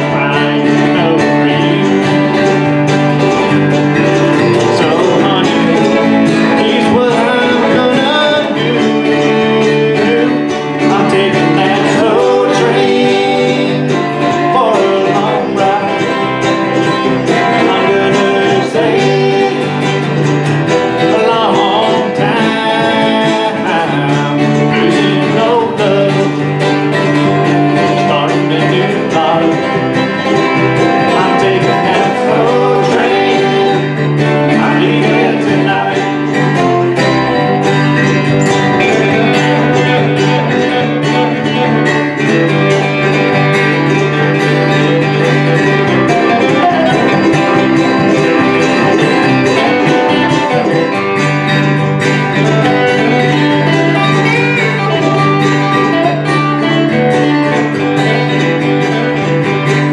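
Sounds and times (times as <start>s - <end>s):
electric bass line: 0.0s - 59.9s
plucked string melody: 0.0s - 59.9s
strummed acoustic guitars: 0.0s - 59.9s.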